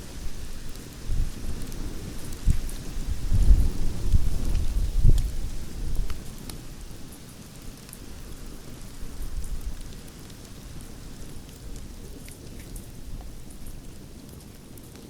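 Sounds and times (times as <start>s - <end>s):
campfire flames rumbling: 0.0s - 15.0s
wood crackling and popping: 0.0s - 15.0s.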